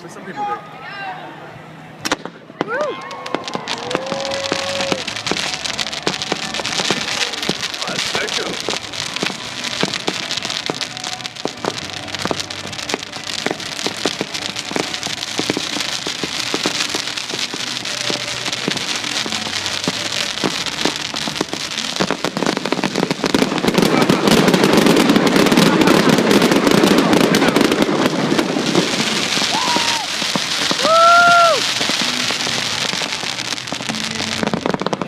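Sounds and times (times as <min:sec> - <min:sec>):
fireworks crackling: 0:02.0 - 0:35.0.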